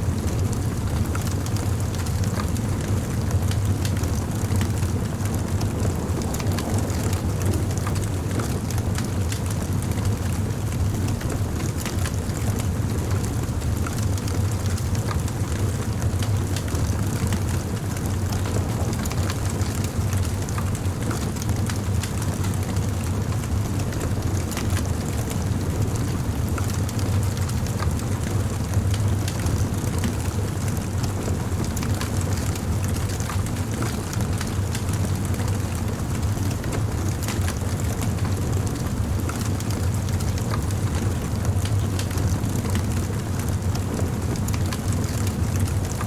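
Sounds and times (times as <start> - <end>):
low rumble of flames: 0.0 - 46.0
wood fire crackling and popping: 0.2 - 46.0.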